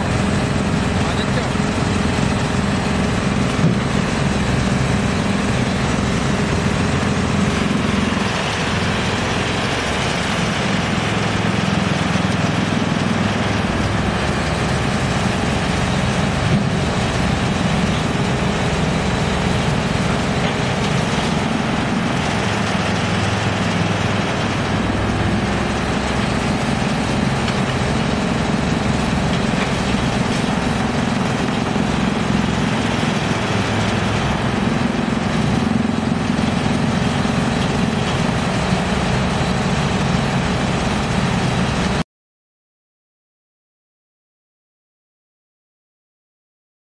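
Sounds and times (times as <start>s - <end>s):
excavator engine running: 0.0s - 42.0s
wood chipper running: 0.0s - 42.0s.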